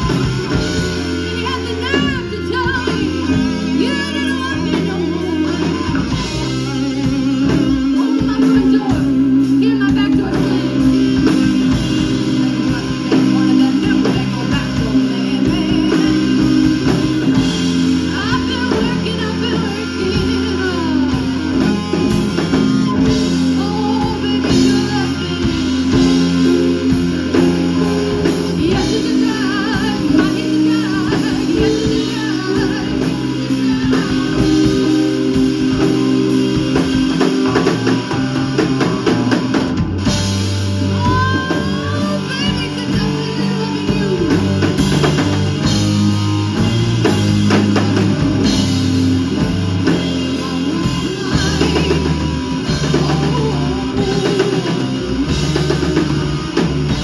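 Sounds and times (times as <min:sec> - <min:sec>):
drum kit: 0:00.0 - 0:57.0
electric bass: 0:00.0 - 0:57.0
electric guitar lead: 0:00.0 - 0:57.0
woman singing: 0:00.0 - 0:57.0.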